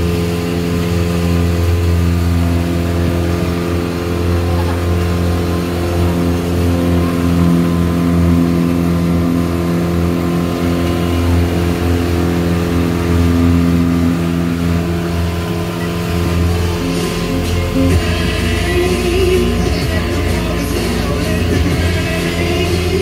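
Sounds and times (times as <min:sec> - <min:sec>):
hiss of moving boat: 0:00.0 - 0:23.0
outboard motor humming: 0:00.0 - 0:23.0.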